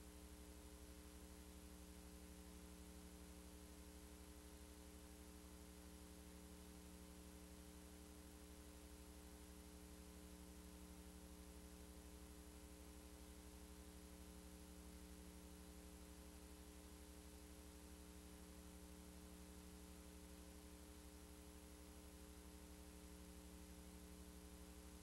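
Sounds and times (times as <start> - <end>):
faint electrical hum with hiss: 0.0 - 25.0.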